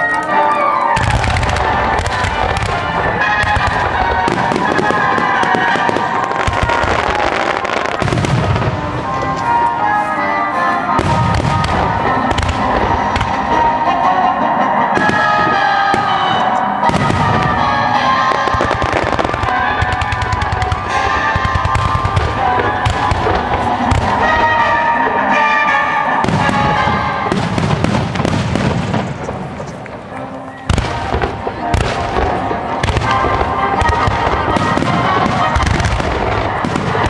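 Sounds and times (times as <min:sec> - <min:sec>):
background music with melody: 0:00.0 - 0:37.0
fireworks bursting: 0:00.0 - 0:37.0.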